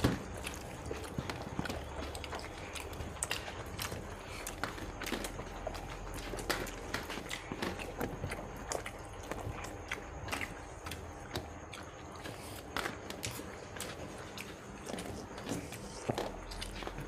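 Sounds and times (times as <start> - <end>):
chewing and mouth noises: 0.0 - 17.0.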